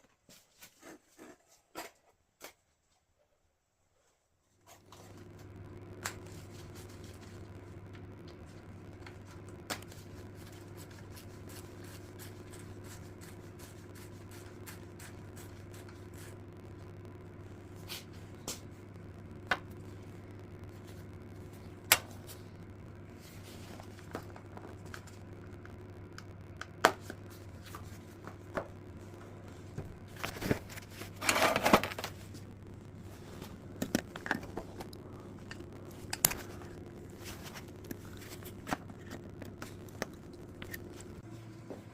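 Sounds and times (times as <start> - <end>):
steady low hum: 4.7 - 41.9.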